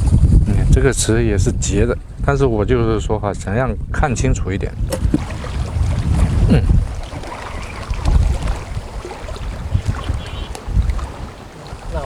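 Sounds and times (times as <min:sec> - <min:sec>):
choppy water: 0:00.0 - 0:12.0
wind buffeting microphone: 0:00.0 - 0:12.0.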